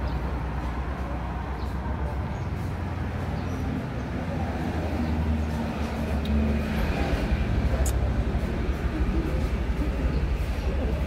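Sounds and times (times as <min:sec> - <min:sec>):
road traffic rumble: 0:00.0 - 0:11.0
vehicle engine hum: 0:00.0 - 0:11.0.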